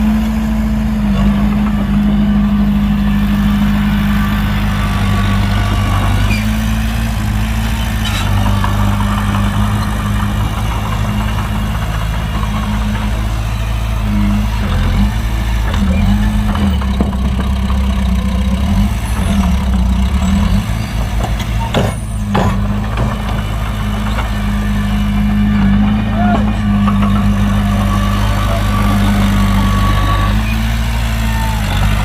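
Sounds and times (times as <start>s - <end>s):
diesel engine hum: 0.0s - 32.0s.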